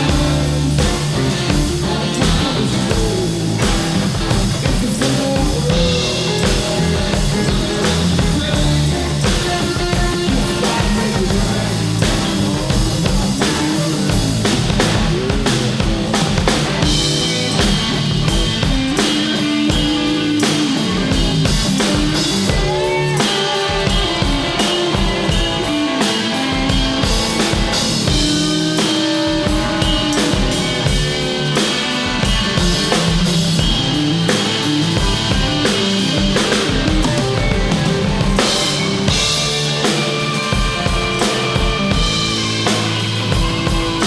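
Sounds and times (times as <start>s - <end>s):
blues-rock band playing: 0.0s - 44.0s
drum kit beat: 0.0s - 44.0s
electric guitar melodic lines: 0.0s - 44.0s.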